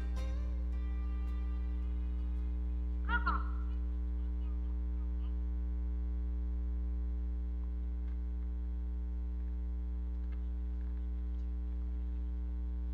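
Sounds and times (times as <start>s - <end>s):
electrical mains hum: 0.0s - 12.9s.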